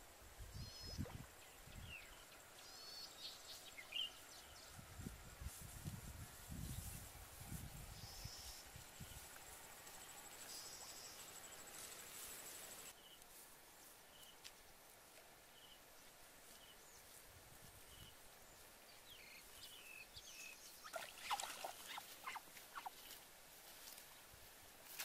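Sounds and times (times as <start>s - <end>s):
rustling and crackling in grass: 2.7s - 25.0s.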